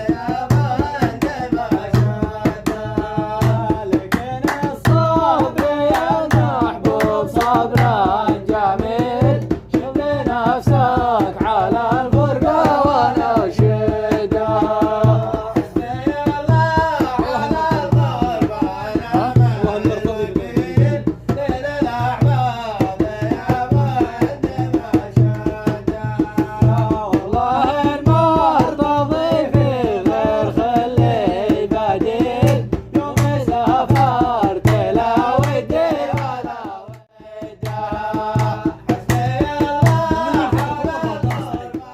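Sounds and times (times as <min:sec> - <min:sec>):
low drum beat: 0:00.0 - 0:41.9.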